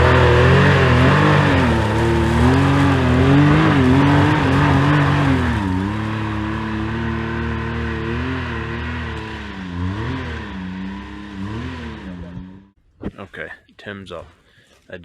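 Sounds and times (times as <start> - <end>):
utility vehicle engine revving: 0.0 - 12.8.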